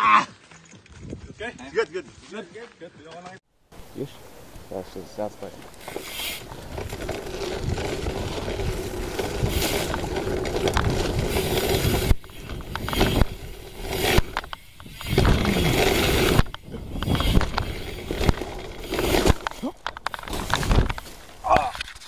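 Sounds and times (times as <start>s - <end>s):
bike tyres over dry leaves: 3.8s - 22.0s.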